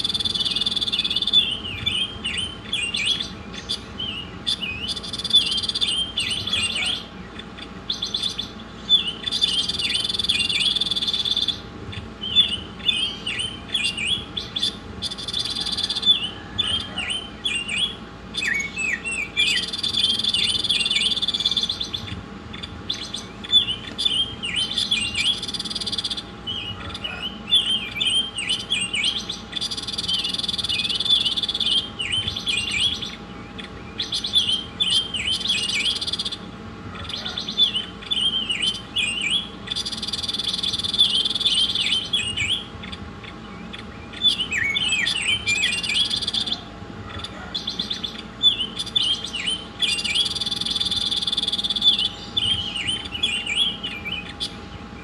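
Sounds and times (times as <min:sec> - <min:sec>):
faint steady hum: 0:00.0 - 0:55.0
songbird singing: 0:00.0 - 0:55.0.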